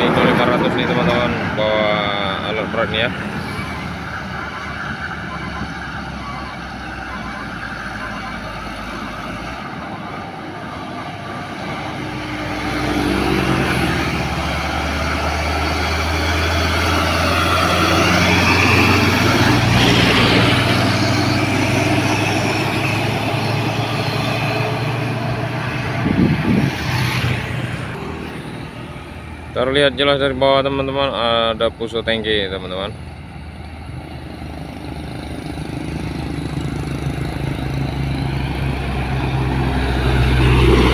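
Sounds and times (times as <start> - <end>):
truck diesel engine labouring: 0.0 - 40.9.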